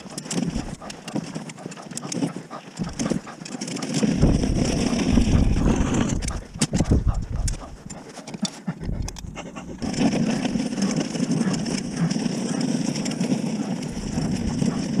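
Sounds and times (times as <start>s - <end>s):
person panting heavily: 0.0s - 15.0s
small wheels rolling: 0.0s - 15.0s
snow plough blade scraping: 0.0s - 15.0s.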